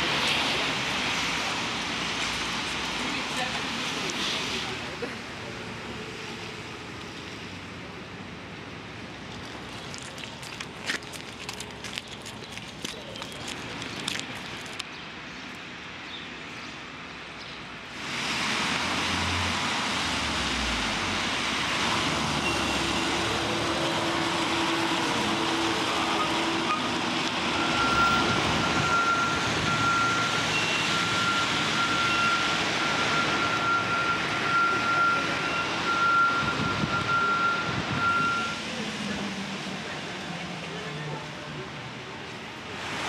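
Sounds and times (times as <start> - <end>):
tyres hissing on wet street: 0.0 - 43.0.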